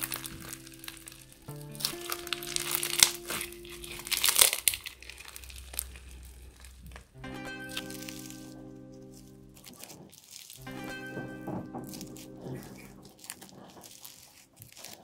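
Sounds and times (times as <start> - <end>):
crunchy slime crackling: 0.0 - 15.0
soft background music: 0.0 - 15.0.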